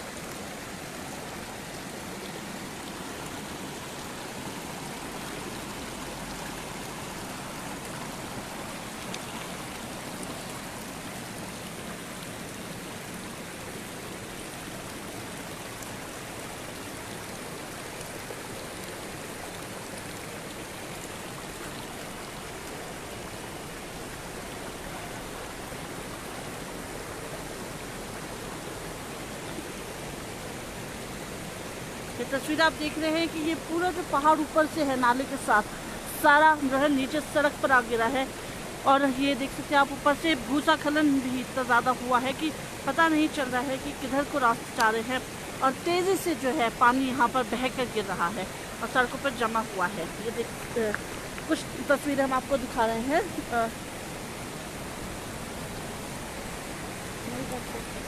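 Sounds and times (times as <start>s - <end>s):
floodwater rushing along road: 0.0s - 58.0s.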